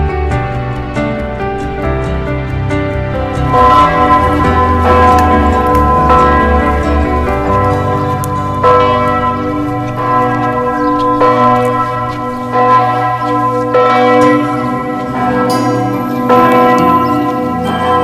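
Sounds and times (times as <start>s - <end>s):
church bells ringing a tune: 0.0s - 18.0s.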